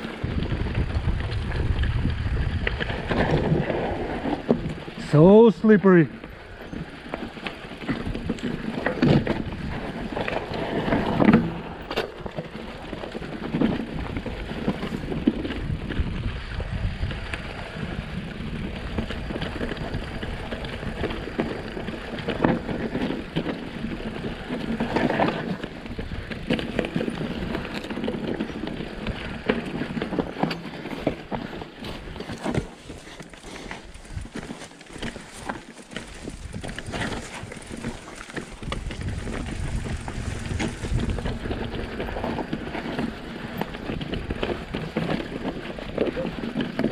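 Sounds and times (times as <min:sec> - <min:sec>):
bike tyres on loose ground: 0:00.0 - 0:46.9
bike knocks and rattles: 0:06.1 - 0:16.3, 0:18.4 - 0:46.9.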